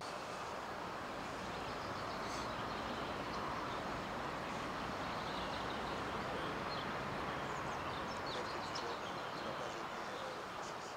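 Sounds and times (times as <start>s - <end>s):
faint birds chirping: 0.0s - 10.9s.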